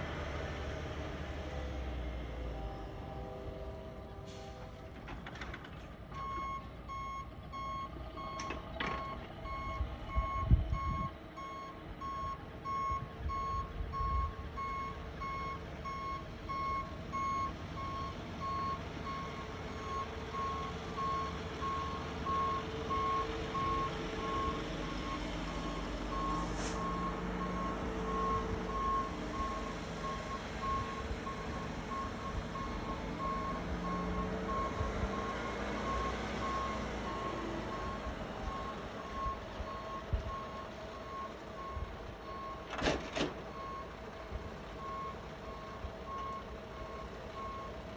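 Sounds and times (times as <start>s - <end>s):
truck backup alarm beeping: 6.1s - 42.8s, 43.5s - 44.0s, 44.8s - 47.9s.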